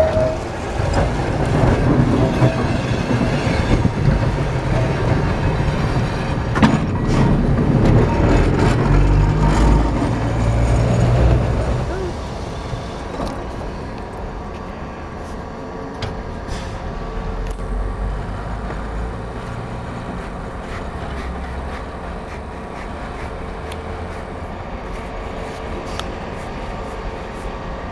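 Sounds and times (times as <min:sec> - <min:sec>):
streetcar rumbling on rails: 0:00.0 - 0:27.9.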